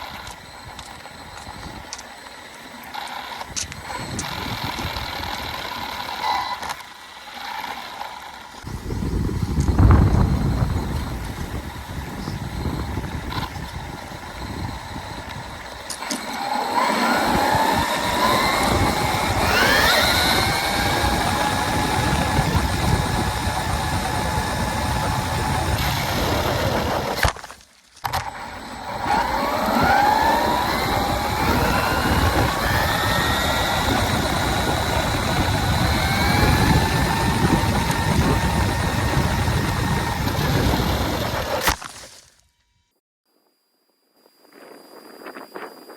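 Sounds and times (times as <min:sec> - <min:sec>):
electric motor whining: 0:00.0 - 0:42.0.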